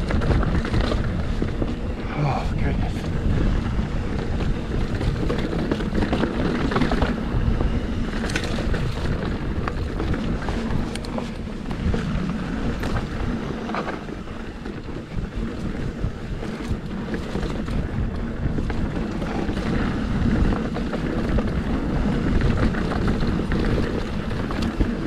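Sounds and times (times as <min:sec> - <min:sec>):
bike tyre rumble and rattling: 0:00.0 - 0:25.0
wind noise on microphone: 0:00.0 - 0:25.0.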